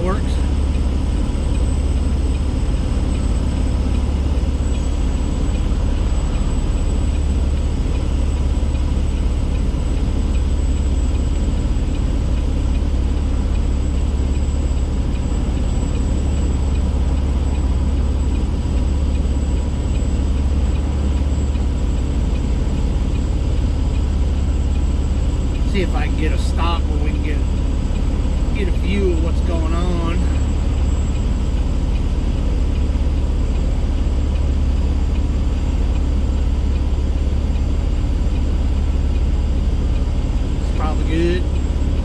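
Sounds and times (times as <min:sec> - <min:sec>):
diesel truck engine rumble: 0:00.0 - 0:42.0.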